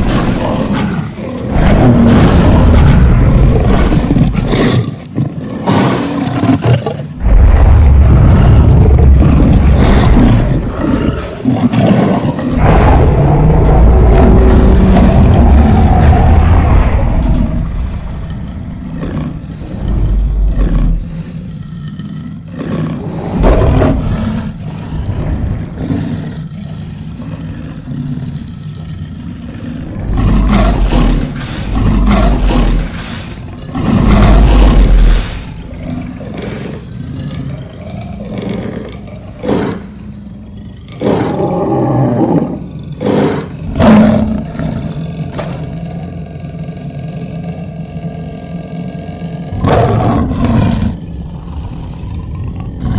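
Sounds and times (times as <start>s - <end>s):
monster roars: 0.0s - 21.5s, 22.4s - 40.0s, 40.8s - 52.9s
steady low hum: 7.1s - 52.9s.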